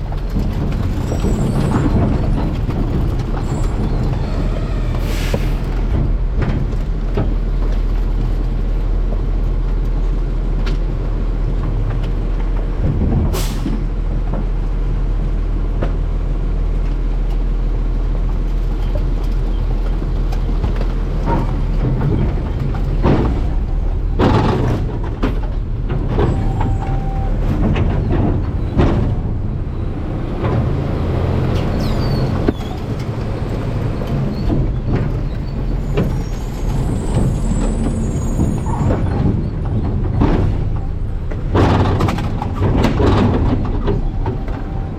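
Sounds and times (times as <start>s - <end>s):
truck diesel engine droning: 0.0s - 16.8s, 19.4s - 44.9s.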